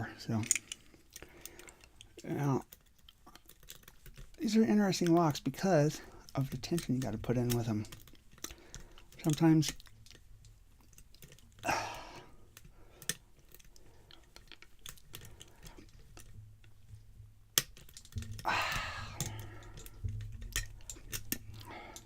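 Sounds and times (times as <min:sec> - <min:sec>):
small metal clicks: 0:00.0 - 0:22.0
lock pick scraping: 0:00.4 - 0:11.6, 0:12.5 - 0:22.0.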